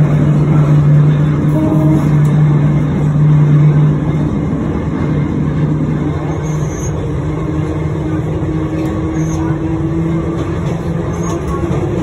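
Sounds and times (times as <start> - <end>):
trolley car rolling on rails: 0.0 - 12.0.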